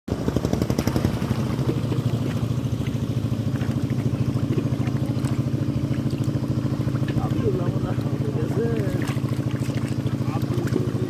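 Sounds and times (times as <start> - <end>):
small engine running: 0.1 - 11.0.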